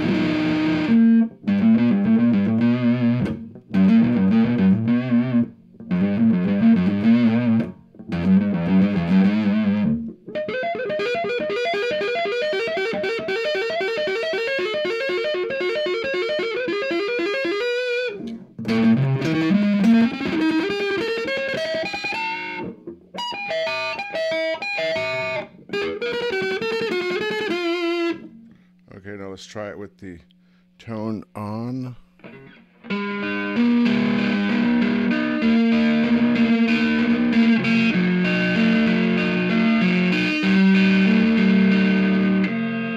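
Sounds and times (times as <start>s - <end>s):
distorted electric guitar: 0.0s - 28.5s, 31.0s - 42.9s.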